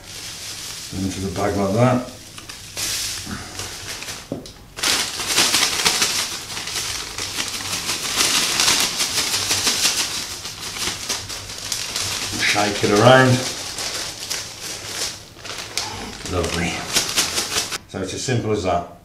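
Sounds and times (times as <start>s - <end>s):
plastic bag crinkling and rustling: 0.0s - 17.8s.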